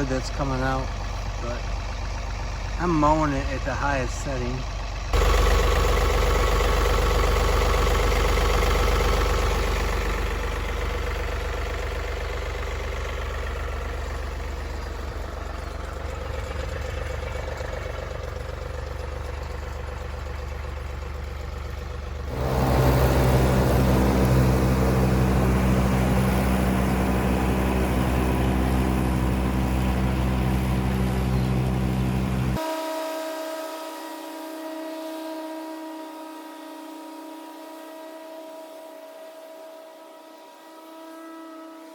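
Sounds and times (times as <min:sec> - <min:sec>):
tractor engine mowing grass: 0:00.0 - 0:41.6.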